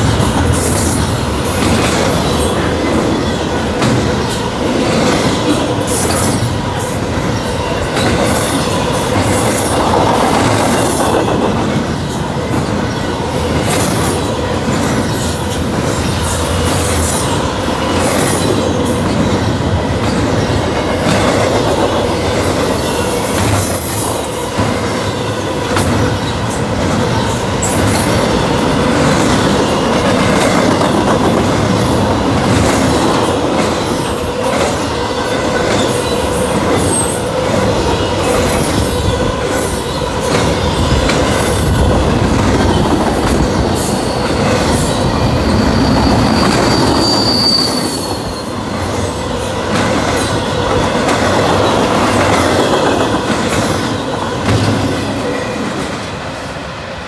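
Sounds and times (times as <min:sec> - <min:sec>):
freight cars rumbling and rattling: 0:00.0 - 0:56.0.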